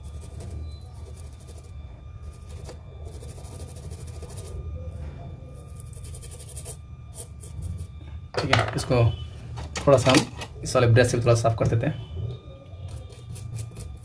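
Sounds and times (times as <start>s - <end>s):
low hum of bench equipment: 0.0s - 14.0s.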